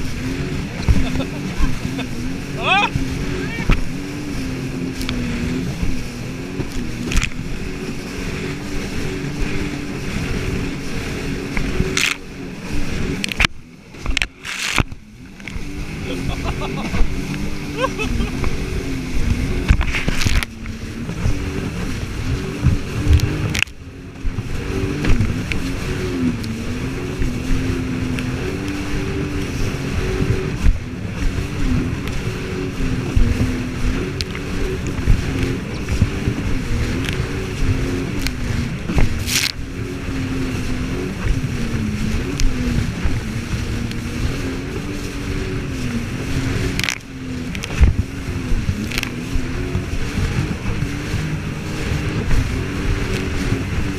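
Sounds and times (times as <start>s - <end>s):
jet ski engine running: 0.0s - 53.9s.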